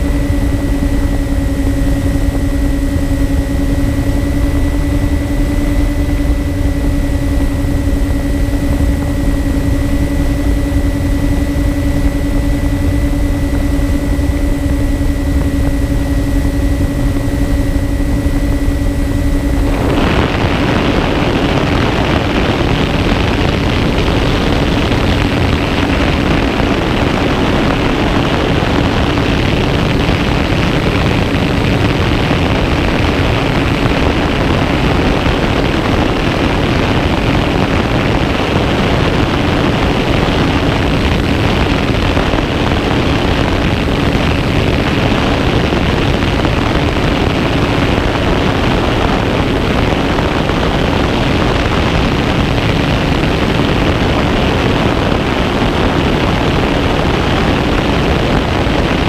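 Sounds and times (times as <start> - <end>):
electric motors and propellers droning: 0.0 - 59.0
wind rush on microphone: 0.0 - 59.0.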